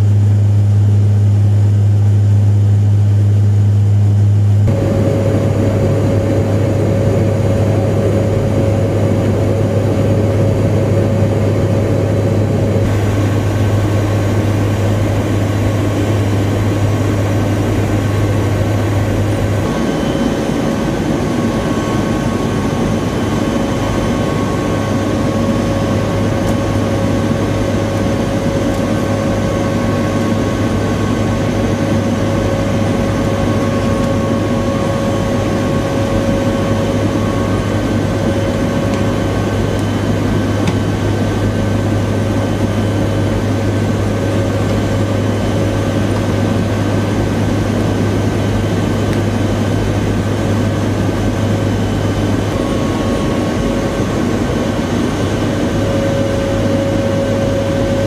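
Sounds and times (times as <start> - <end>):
aircraft engine drone in cabin: 0.0 - 58.0.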